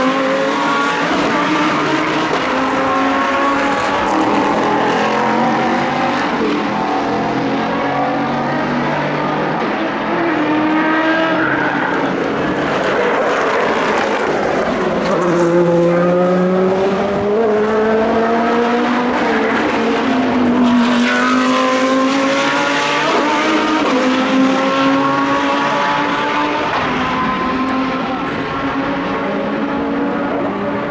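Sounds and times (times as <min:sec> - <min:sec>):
race car engines accelerating: 0:00.0 - 0:30.9.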